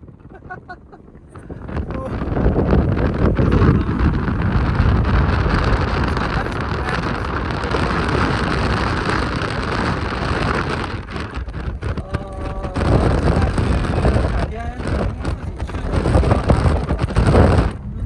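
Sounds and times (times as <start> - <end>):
car road and engine noise: 0.0 - 18.0
wind buffeting microphone: 0.0 - 18.0.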